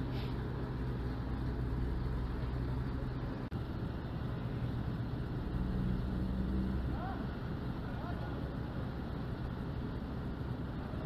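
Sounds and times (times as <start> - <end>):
low drone of ship engines: 0.0 - 11.0.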